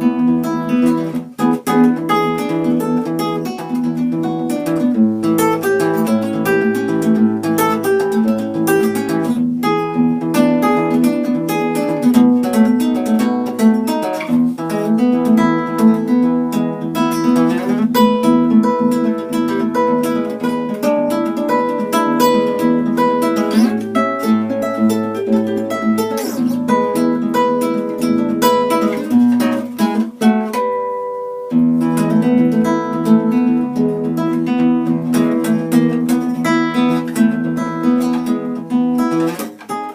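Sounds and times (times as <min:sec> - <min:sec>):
acoustic guitar playing fast: 0:00.0 - 0:39.9.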